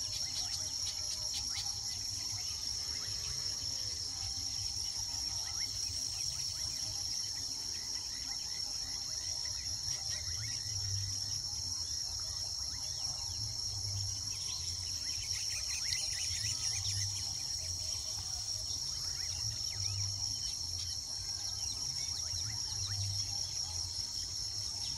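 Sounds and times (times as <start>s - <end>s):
high-pitched insect chorus: 0.0s - 24.9s
weaver birds chirping: 0.0s - 24.9s.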